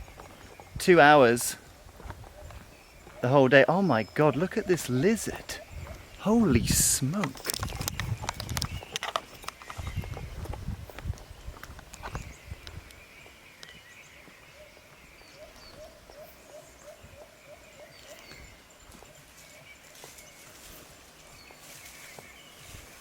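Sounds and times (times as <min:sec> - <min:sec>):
low rumble of wind: 0:00.0 - 0:03.3, 0:04.0 - 0:23.0.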